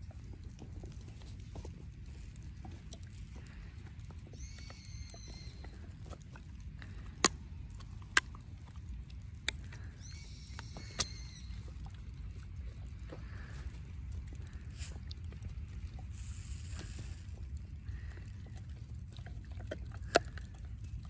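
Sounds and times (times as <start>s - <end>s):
dog chewing wooden stick: 0.0s - 21.0s
steady low rumble: 0.0s - 21.0s.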